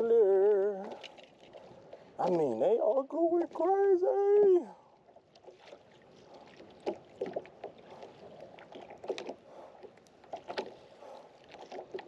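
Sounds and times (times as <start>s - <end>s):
waves slapping against boat hull: 0.0s - 12.0s.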